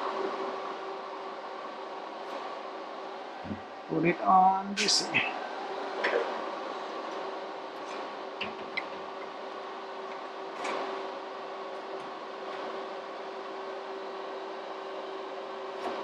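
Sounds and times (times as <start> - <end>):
welder fan hum: 0.0 - 16.0.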